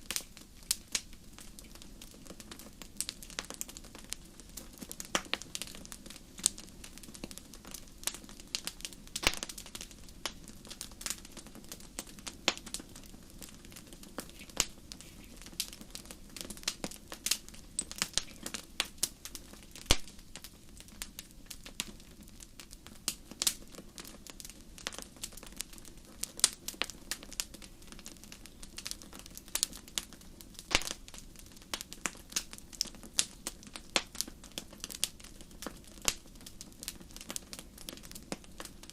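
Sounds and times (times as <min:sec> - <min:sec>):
low rush of flames: 0:00.0 - 0:38.9
wood fire crackling: 0:00.0 - 0:38.9.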